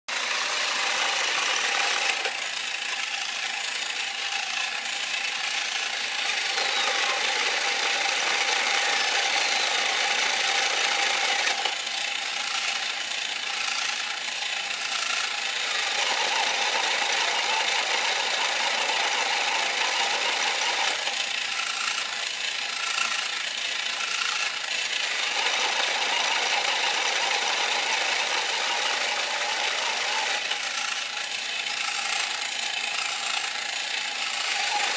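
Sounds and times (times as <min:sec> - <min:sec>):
toy motor and gears rattling: 0:00.1 - 0:34.9.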